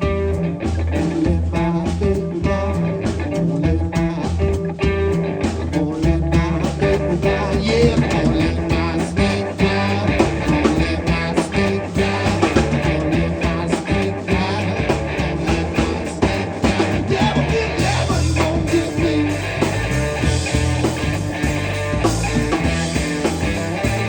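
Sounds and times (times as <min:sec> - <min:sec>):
bass line: 0:00.0 - 0:24.0
electric guitar playing: 0:00.0 - 0:24.0
steady drum beat: 0:00.0 - 0:24.0.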